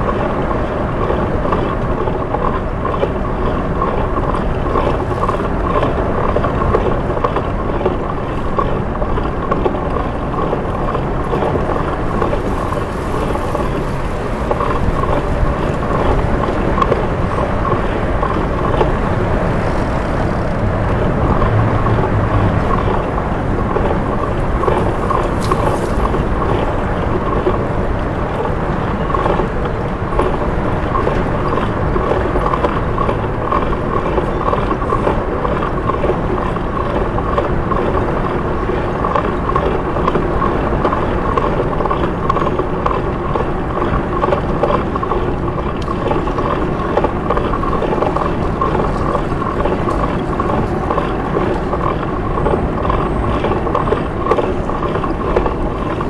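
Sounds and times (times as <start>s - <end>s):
road noise: 0.0s - 56.0s
traffic: 0.0s - 56.0s
wind rush: 0.0s - 56.0s.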